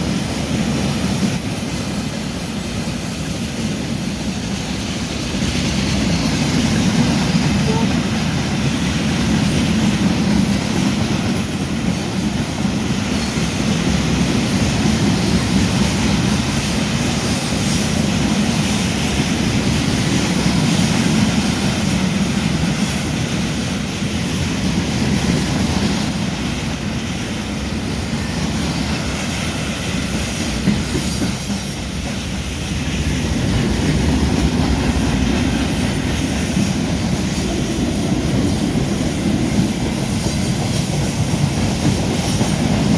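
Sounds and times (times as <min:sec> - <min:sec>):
freight train rumbling past: 0:00.0 - 0:42.9
high wheel squeal: 0:00.0 - 0:42.9
wheels clattering over rails: 0:00.0 - 0:42.9.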